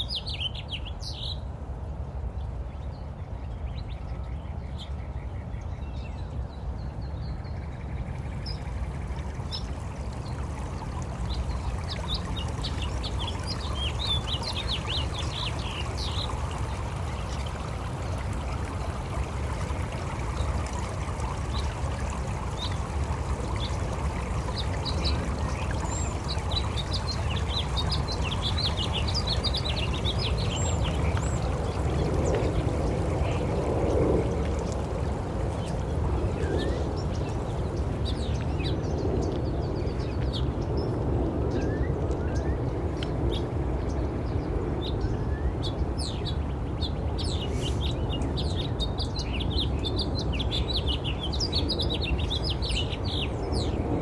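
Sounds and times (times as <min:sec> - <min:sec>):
birds chirping: 0:00.0 - 0:01.5, 0:02.4 - 0:40.9, 0:41.5 - 0:54.0
rushing water-like noise: 0:00.0 - 0:54.0.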